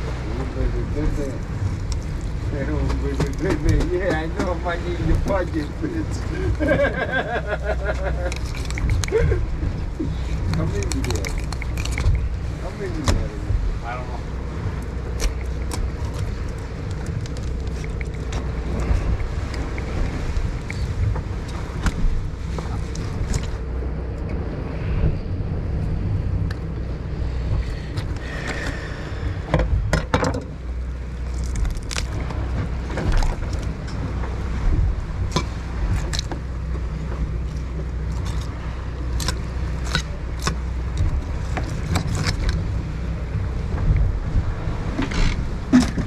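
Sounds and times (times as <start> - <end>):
boat engine rumbling: 0.0 - 46.0.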